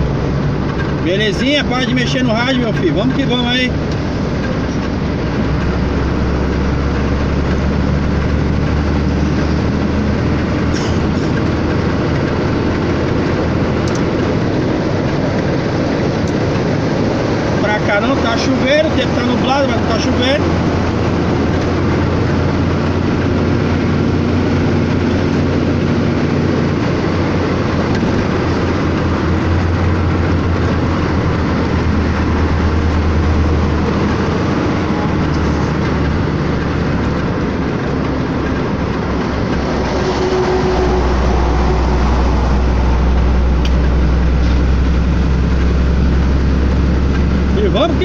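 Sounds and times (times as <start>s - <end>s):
road noise inside cab: 0.0s - 48.0s
truck diesel engine running: 0.0s - 48.0s.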